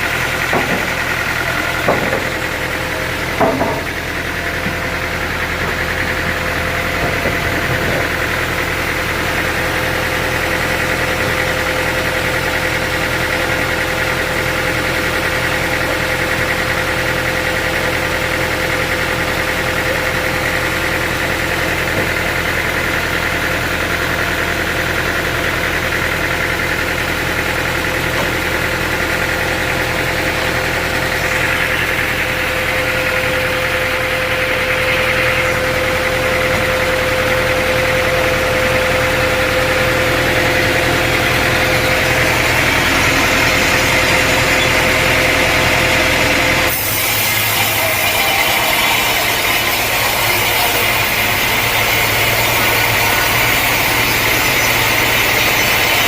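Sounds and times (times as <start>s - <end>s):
engine drone: 0.0s - 56.0s
high machinery whine: 0.0s - 56.0s.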